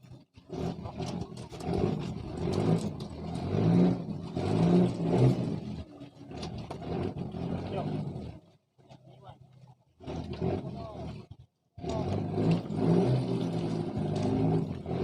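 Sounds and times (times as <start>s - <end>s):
boat engine revving: 0.0s - 15.0s.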